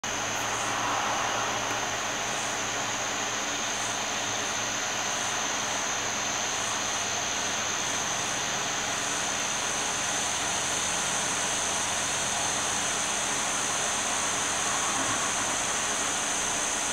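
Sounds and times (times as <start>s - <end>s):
high-pitched whine: 0.0s - 16.9s
steady hiss: 0.0s - 16.9s.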